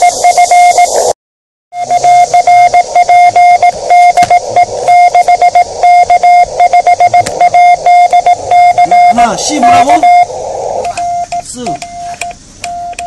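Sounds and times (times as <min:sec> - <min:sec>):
morse code tone: 0:00.0 - 0:01.1, 0:01.8 - 0:13.0
radio hiss: 0:00.0 - 0:01.1, 0:01.8 - 0:12.4.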